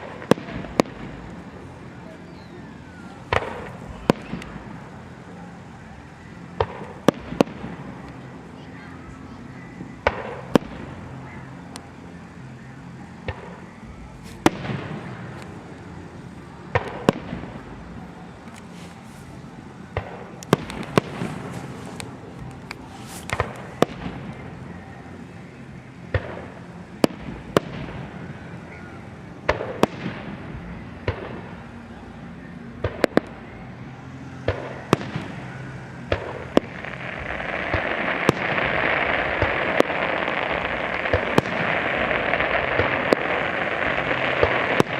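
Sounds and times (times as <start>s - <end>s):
fireworks crackling hiss: 0.0s - 44.9s.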